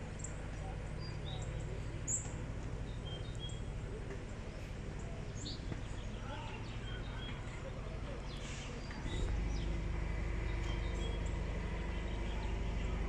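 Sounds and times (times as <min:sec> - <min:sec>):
faint distant voices: 0:00.0 - 0:13.0
low outdoor rumble: 0:00.0 - 0:13.0
small birds chirping: 0:00.1 - 0:13.0.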